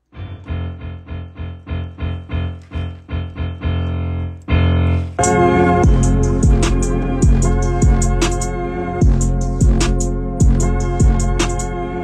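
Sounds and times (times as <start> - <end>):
piano-like keyboard melody: 0.0 - 12.0.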